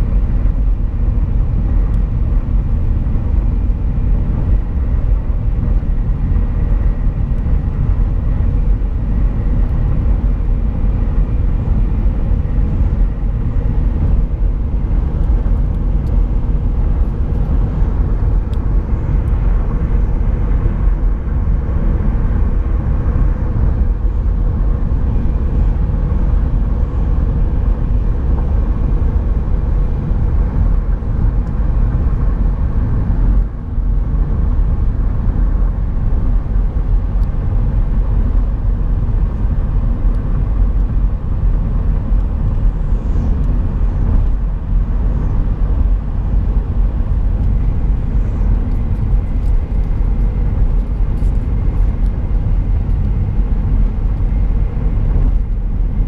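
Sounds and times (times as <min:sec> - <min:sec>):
tyre and wind noise in car: 0:00.0 - 0:56.0.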